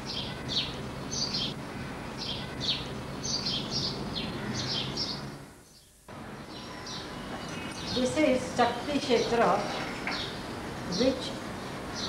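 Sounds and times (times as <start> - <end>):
background hiss and hum: 0.0 - 12.0
small birds chirping: 0.0 - 12.0.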